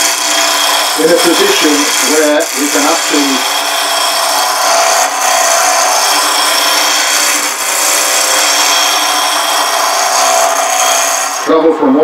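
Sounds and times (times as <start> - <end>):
gouge cutting wood on lathe: 0.0 - 12.0
lathe humming: 0.0 - 12.0.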